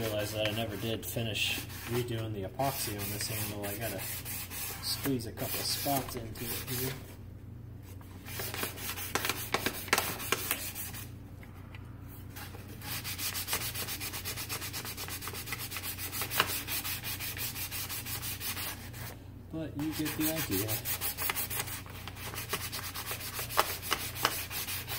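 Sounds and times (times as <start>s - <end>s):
sandpaper rubbing: 0.0s - 7.0s, 8.2s - 11.1s, 12.4s - 19.1s, 19.8s - 24.9s.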